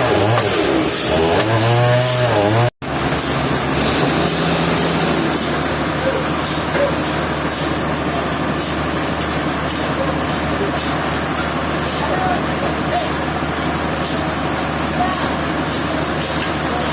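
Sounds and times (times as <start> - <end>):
heavy machine humming: 0.0 - 16.9.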